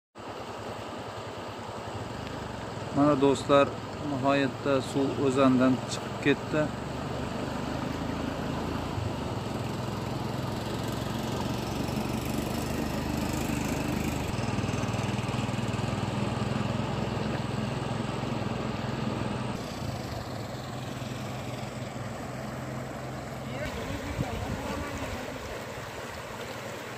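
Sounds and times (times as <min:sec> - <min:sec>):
river water rushing: 0:00.2 - 0:26.9
small engine humming: 0:00.2 - 0:26.9.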